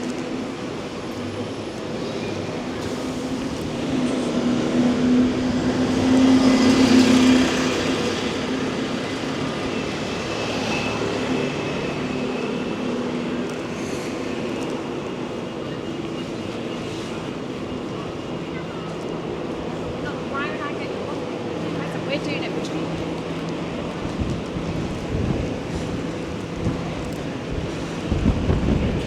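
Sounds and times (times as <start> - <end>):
street noise: 0.0 - 29.0.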